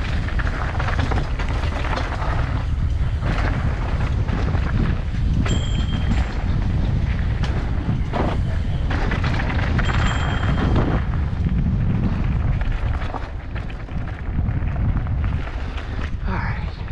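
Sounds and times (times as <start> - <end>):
bike rattling: 0.0 - 16.9
tyres rolling over gravel: 0.0 - 16.9
wind buffeting microphone: 0.0 - 16.9.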